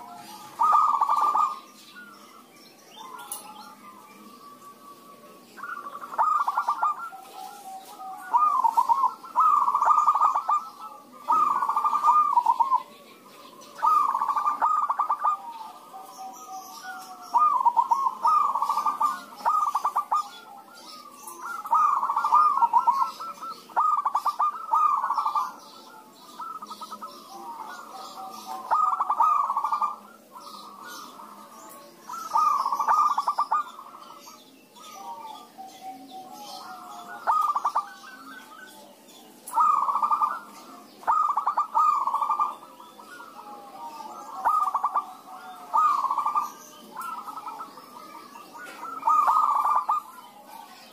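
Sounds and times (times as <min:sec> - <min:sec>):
doves cooing: 0:00.0 - 0:50.9.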